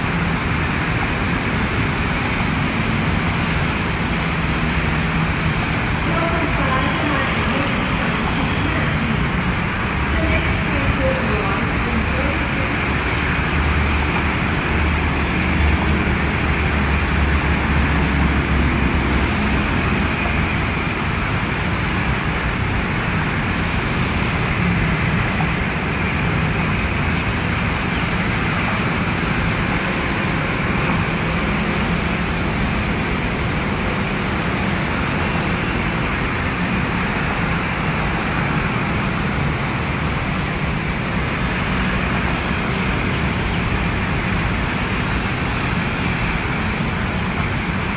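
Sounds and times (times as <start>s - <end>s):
road traffic hum: 0.0s - 47.9s.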